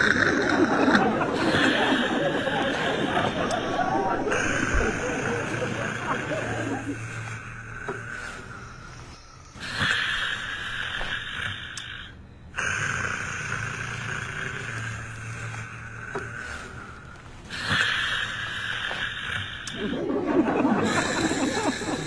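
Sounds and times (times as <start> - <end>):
person snoring: 0.0 - 22.0.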